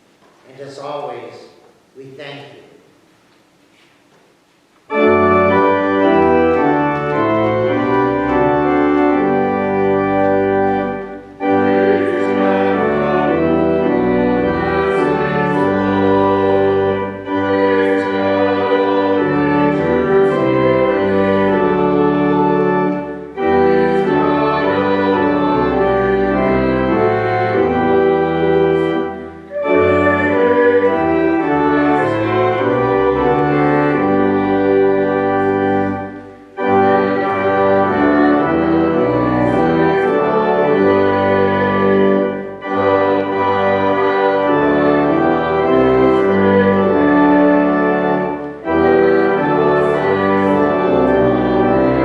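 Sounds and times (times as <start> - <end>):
organ playing slow chords: 4.4 - 52.0.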